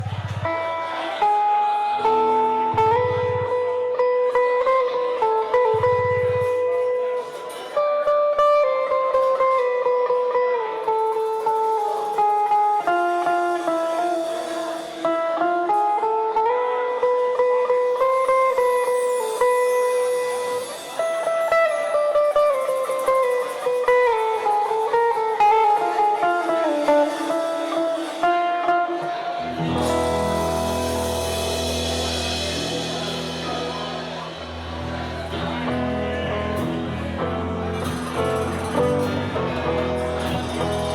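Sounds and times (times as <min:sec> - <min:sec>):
guitar melody: 0:00.0 - 0:40.9.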